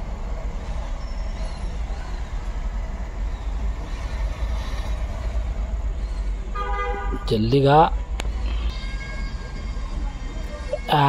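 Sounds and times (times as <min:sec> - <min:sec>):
motor vehicle rumble: 0:00.0 - 0:11.0
road noise: 0:00.0 - 0:11.0.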